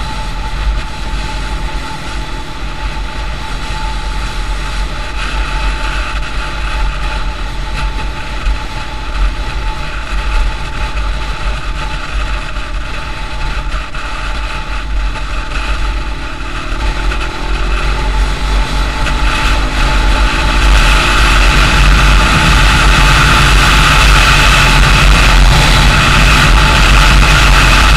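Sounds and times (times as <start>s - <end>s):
motorcycle engine cruising: 0.0s - 27.9s
wind rush: 0.0s - 27.9s.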